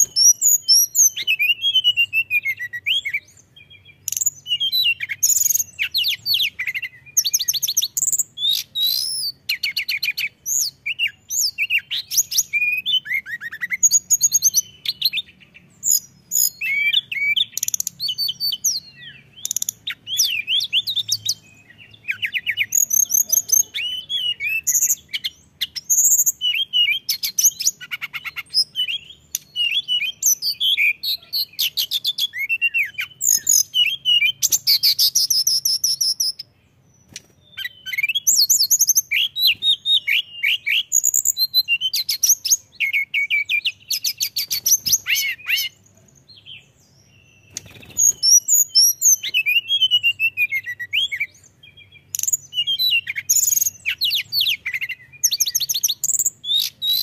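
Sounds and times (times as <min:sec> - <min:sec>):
bird song with whistles and trills: 0:00.0 - 0:57.0.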